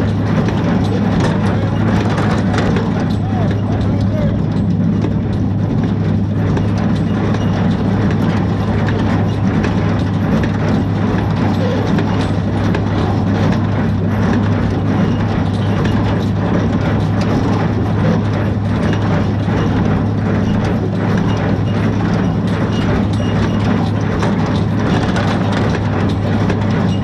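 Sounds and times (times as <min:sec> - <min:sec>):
tractor engine hum: 0:00.0 - 0:27.0.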